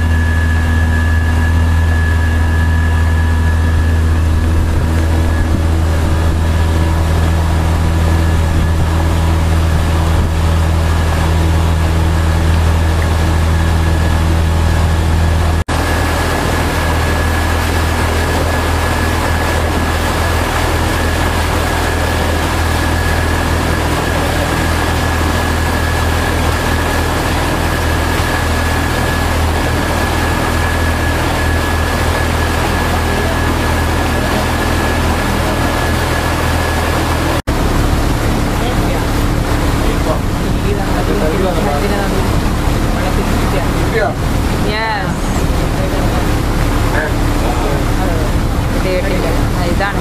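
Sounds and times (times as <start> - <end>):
engine droning: 0.0 - 50.0
thin steady whine: 0.0 - 50.0.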